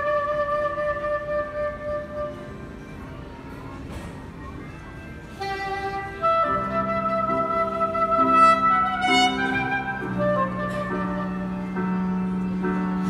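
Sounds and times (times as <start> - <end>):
soprano saxophone melody: 0.0 - 3.9, 5.2 - 13.0
keyboard chords: 0.0 - 13.0.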